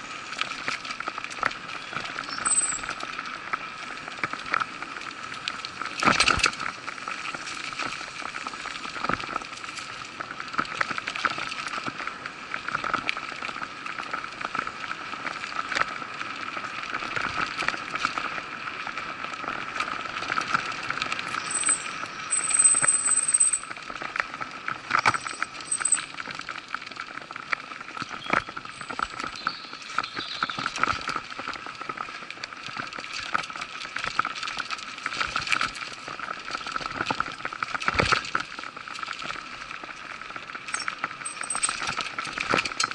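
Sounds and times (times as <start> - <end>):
bike tyre and drivetrain noise: 0.0 - 42.9
bike rattling over bumps: 0.2 - 42.9.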